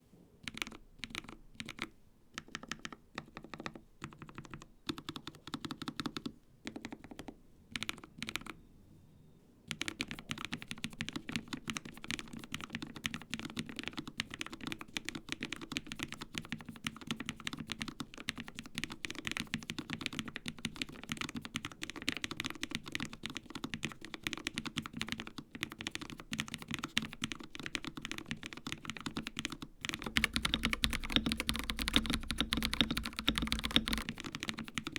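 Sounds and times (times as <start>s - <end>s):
mechanical keyboard typing: 0.4s - 8.6s, 9.7s - 34.9s.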